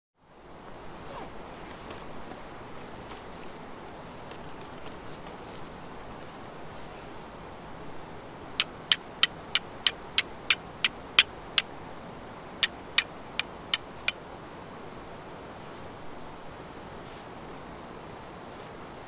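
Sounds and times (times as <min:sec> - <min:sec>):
background hiss: 0:00.2 - 0:19.0.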